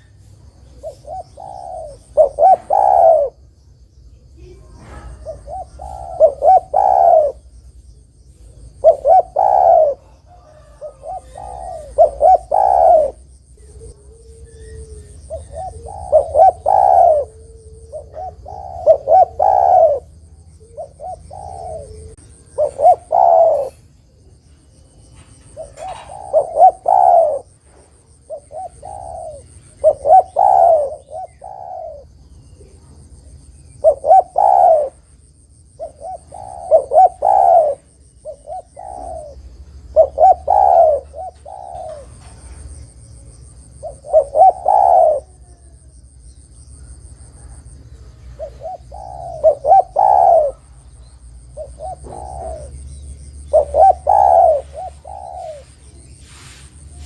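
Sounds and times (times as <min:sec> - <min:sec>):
dove cooing: 0:00.0 - 0:03.6, 0:04.3 - 0:57.0.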